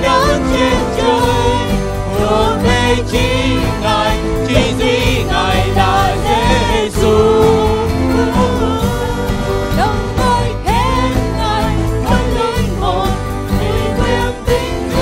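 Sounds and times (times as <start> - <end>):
instrumental backing: 0.0 - 15.0
worship song vocals: 0.0 - 15.0.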